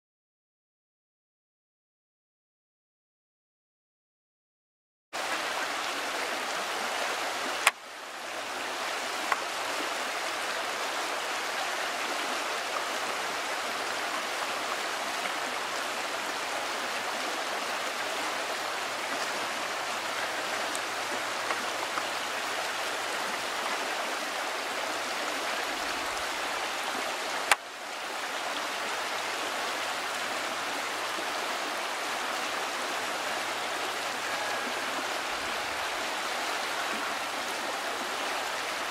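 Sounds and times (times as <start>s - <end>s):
river rushing over rocks: 5.2s - 38.9s.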